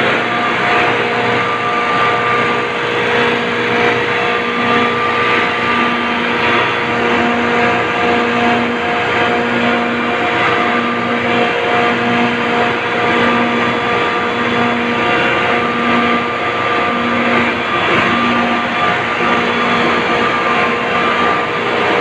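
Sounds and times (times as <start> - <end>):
refrigeration compressor running: 0.0 - 22.0.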